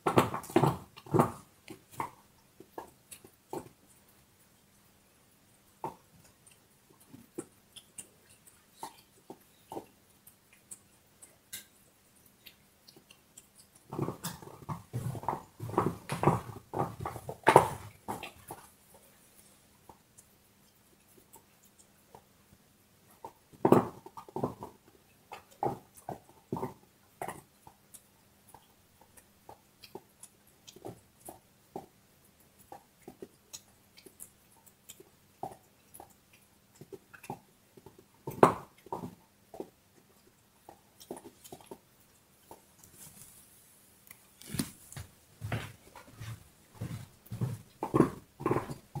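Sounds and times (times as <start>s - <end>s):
dog gnawing on bone: 0.0s - 4.2s, 5.8s - 22.4s, 23.0s - 43.4s, 45.8s - 49.0s.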